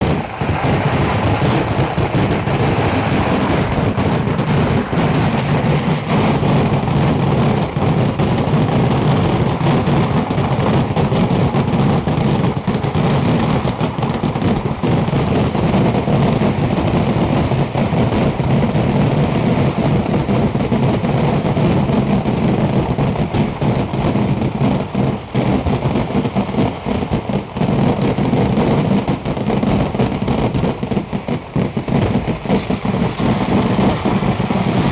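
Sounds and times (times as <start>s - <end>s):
firecracker bangs and crackle: 0.0s - 34.9s.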